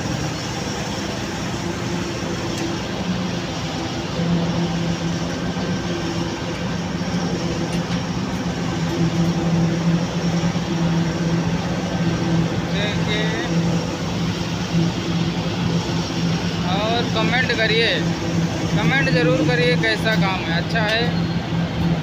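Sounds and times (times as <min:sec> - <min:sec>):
pump engine humming: 0:00.0 - 0:22.0.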